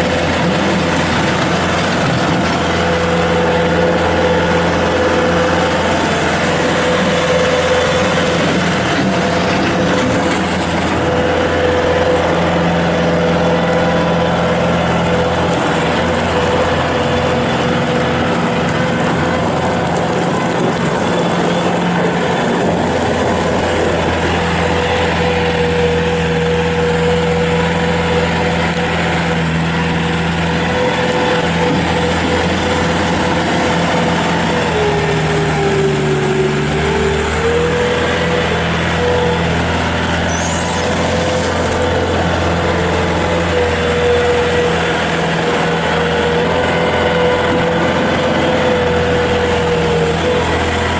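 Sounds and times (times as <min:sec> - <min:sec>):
diesel engine running with whine: 0:00.0 - 0:50.9.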